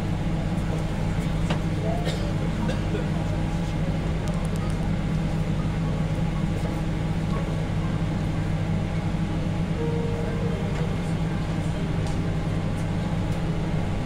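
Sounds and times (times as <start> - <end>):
train carriage low hum: 0.0 - 14.0.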